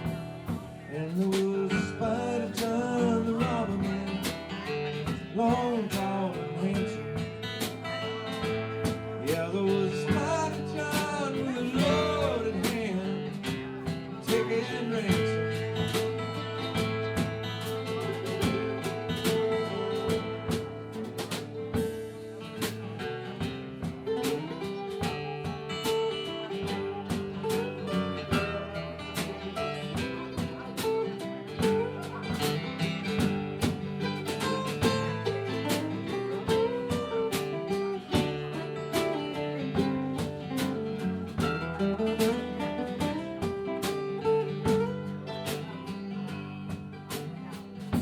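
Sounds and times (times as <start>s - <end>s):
country band playing: 0.0s - 48.0s
drum beat: 0.0s - 48.0s
strummed guitars: 0.0s - 48.0s.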